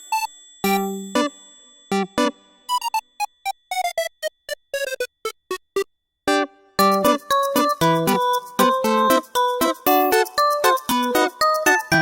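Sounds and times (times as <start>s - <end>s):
bright bouncy background music: 0.0s - 12.0s.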